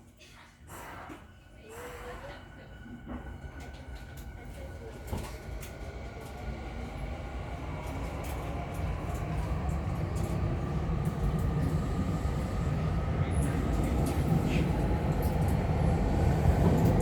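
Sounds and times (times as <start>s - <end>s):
train wheels rumbling: 2.8s - 17.0s.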